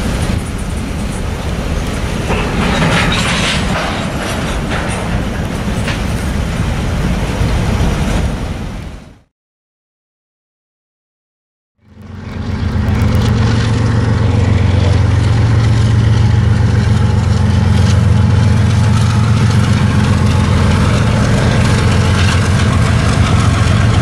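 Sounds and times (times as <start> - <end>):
locomotive engine drone: 0.0 - 8.7, 11.8 - 24.0
wheels hissing on rail: 0.0 - 8.8, 12.0 - 24.0.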